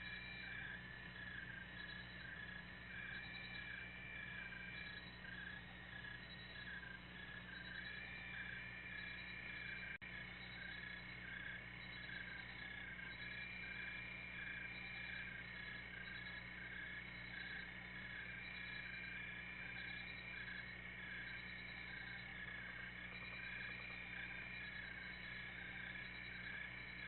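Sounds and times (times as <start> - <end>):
low steady hum: 0.0 - 27.0
night creatures chirping: 0.0 - 27.0.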